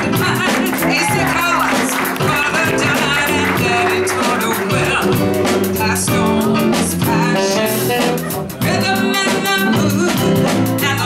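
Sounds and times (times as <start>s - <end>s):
blues band playing: 0.0s - 11.0s.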